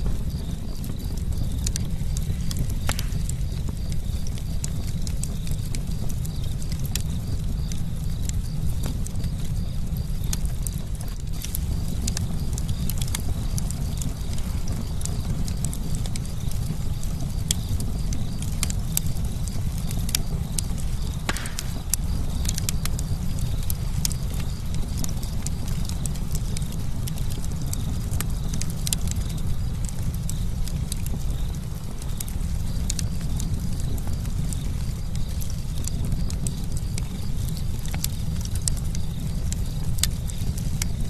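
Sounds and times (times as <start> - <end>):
campfire crackling and popping: 0.0 - 41.0
fire hissing: 0.0 - 41.0
low fire rumble: 0.0 - 41.0.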